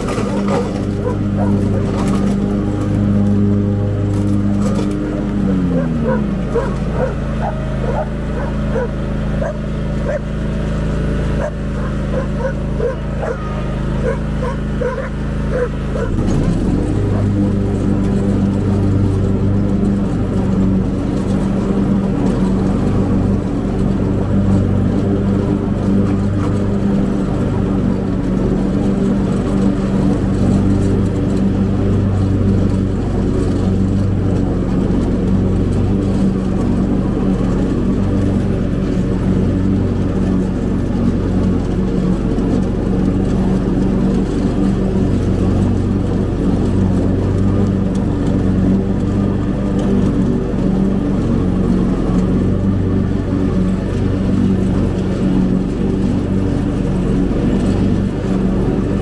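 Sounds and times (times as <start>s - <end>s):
lawn mower engine humming: 0.0s - 59.0s.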